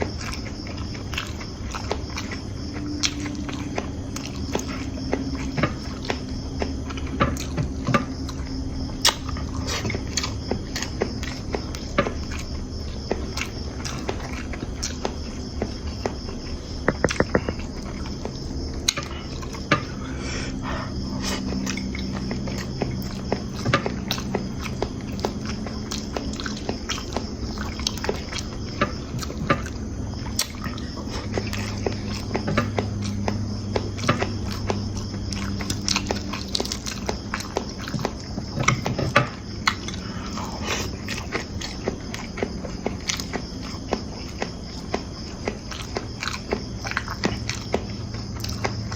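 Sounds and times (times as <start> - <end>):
person chewing: 0.0 - 48.9
steady low hum: 0.0 - 48.9.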